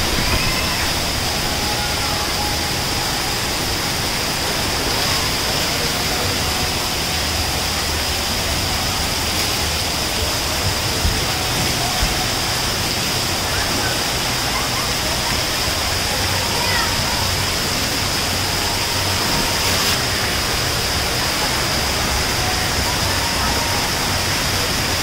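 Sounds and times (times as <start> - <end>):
water spraying and pouring: 0.0 - 25.0.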